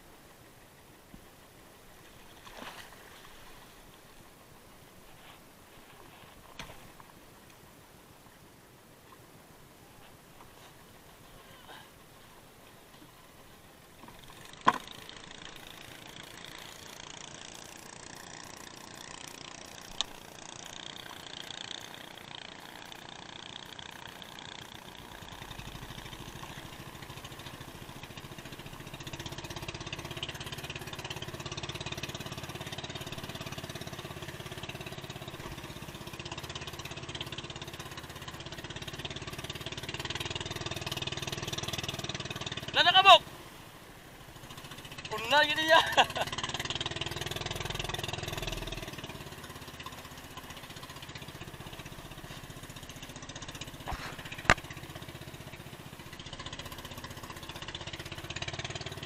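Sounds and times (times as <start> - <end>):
small boat engine running: 0.0 - 59.0.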